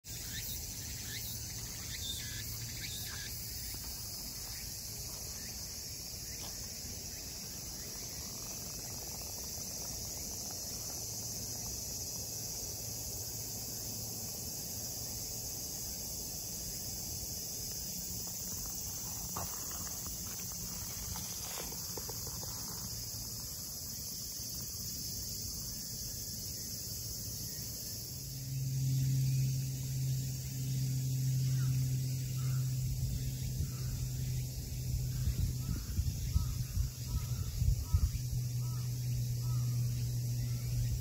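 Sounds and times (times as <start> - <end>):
insect chorus: 0.0 - 41.0.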